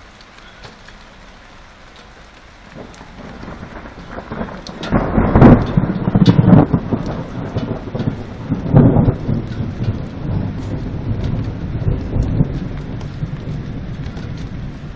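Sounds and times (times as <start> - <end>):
rain hiss: 0.0 - 14.9
thunder rumbling: 0.0 - 14.9.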